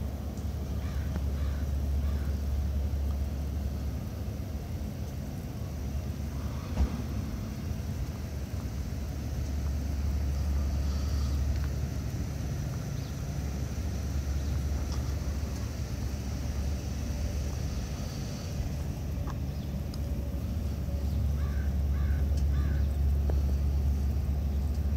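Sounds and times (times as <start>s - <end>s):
low rumble of street ambience: 0.0s - 24.9s.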